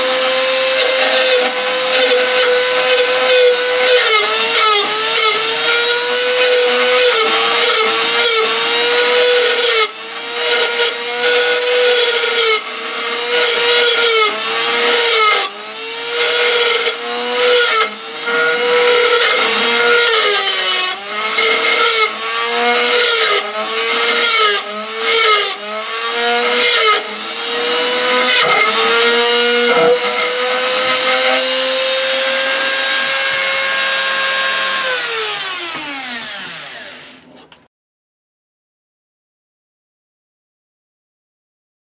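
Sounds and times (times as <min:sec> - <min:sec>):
electric drill motor running: 0:00.0 - 0:37.3.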